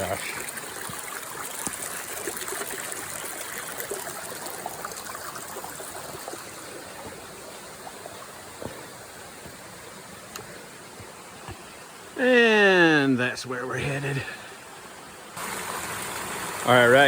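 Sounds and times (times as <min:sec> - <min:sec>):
stream trickling over rocks: 0:00.0 - 0:17.0.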